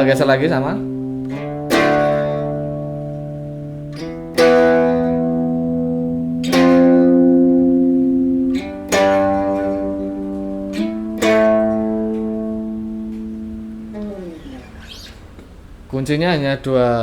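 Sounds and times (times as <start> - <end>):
electric guitar power chords: 0.0 - 14.7.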